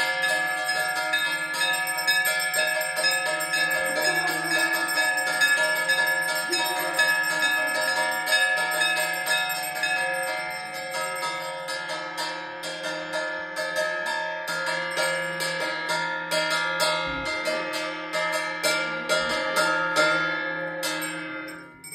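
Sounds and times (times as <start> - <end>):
bells ringing fast: 0.0 - 21.9.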